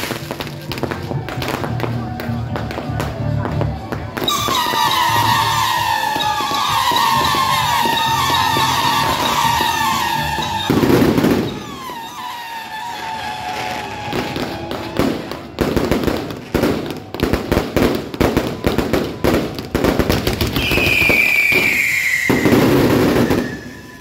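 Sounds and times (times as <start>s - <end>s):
fireworks bangs and crackles: 0.0s - 24.0s
fireworks launching and bursting: 0.0s - 24.0s.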